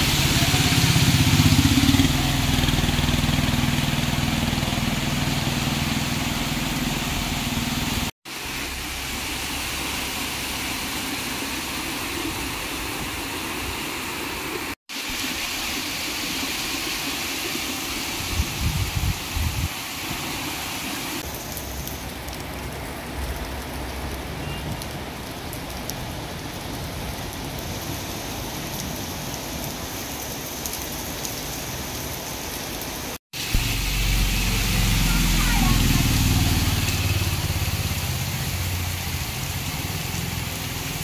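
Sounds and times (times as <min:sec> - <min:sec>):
heavy rain on road and roofs: 0:00.0 - 0:41.0.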